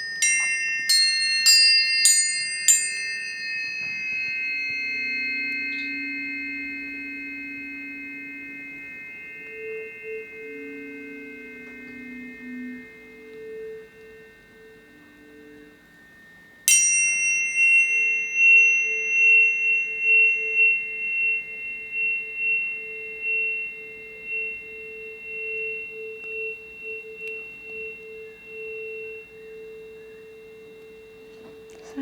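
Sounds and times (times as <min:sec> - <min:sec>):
tuning fork struck: 0:00.0 - 0:32.0
tuning forks ringing: 0:00.0 - 0:32.0.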